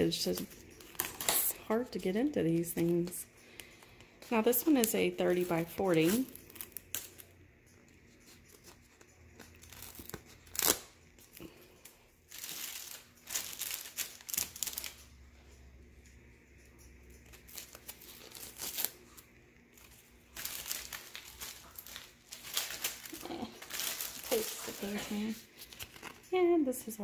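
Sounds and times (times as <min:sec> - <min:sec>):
plastic wrapping crinkling: 0:00.0 - 0:07.3, 0:08.1 - 0:15.2, 0:17.2 - 0:26.4.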